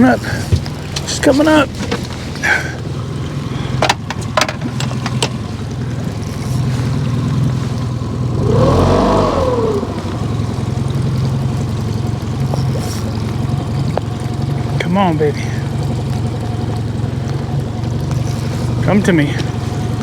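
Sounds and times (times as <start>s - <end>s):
boat motor idling and revving: 0.0s - 20.0s.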